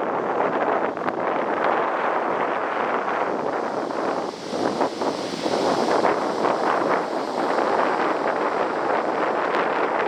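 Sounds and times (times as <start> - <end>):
strong wind on microphone: 0.0 - 10.0.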